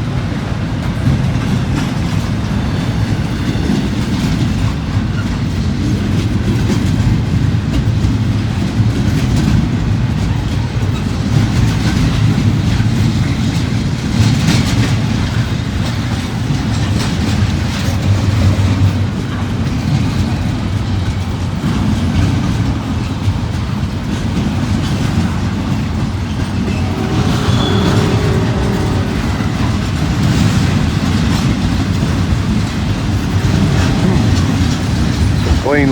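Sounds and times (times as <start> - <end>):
rail joint clicks: 0.0 - 35.9
steel wheels rumbling on rail: 0.0 - 35.9.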